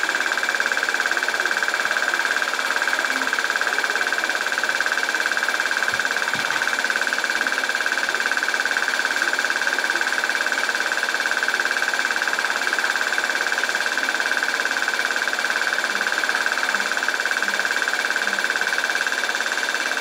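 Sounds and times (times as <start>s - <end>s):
film projector clatter: 0.0s - 20.0s.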